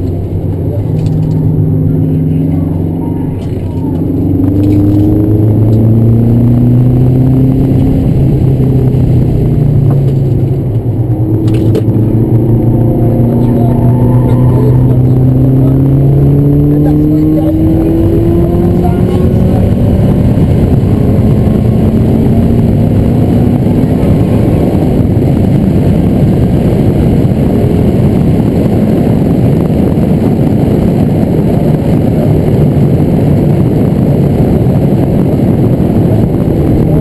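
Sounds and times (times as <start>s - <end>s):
car engine pulling: 0.0s - 37.0s
road noise: 0.0s - 37.0s.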